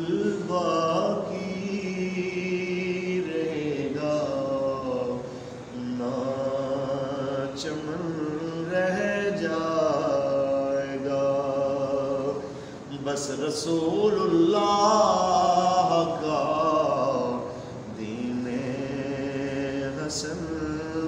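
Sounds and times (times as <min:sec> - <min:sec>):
man singing unaccompanied: 0:00.0 - 0:21.0.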